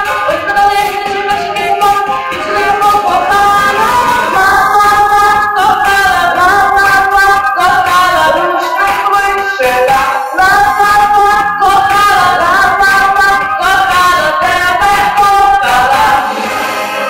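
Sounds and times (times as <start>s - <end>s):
female vocal ensemble singing: 0.0s - 17.0s
instrumental accompaniment: 0.0s - 17.0s.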